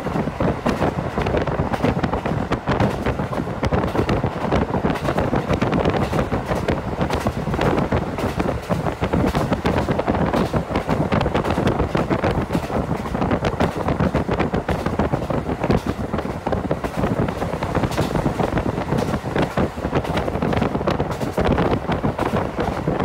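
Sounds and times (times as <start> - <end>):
train running noise: 0.0 - 23.0
wind buffeting microphone: 0.0 - 23.0.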